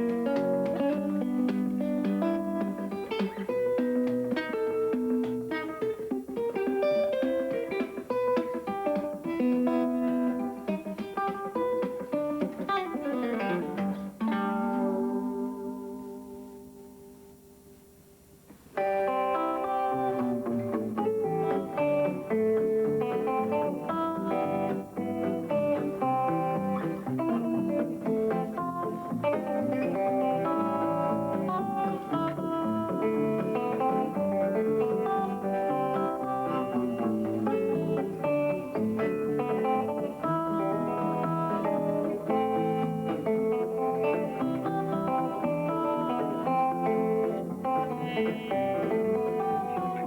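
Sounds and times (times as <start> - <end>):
guitar chord ringing: 0.0 - 17.8, 18.7 - 50.0
thumbpicked guitar tune: 0.0 - 50.0.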